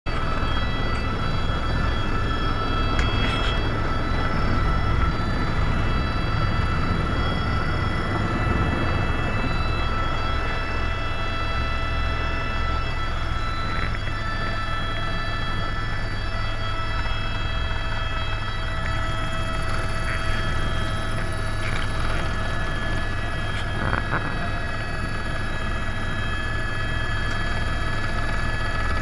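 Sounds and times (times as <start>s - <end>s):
helicopter turbine whine: 0.0s - 29.0s
rotor drone: 0.0s - 29.0s
engine and airflow noise: 0.1s - 29.0s.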